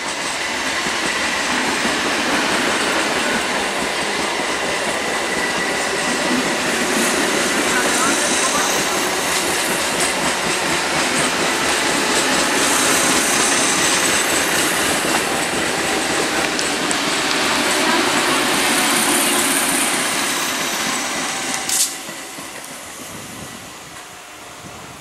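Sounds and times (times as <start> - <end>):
sharp clack of train: 0.0 - 25.0
train wheels on rail: 0.0 - 25.0.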